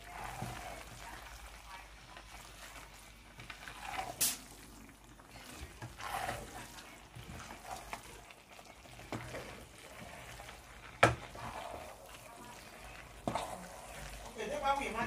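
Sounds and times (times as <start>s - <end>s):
spoon stirring rice: 0.0s - 15.0s.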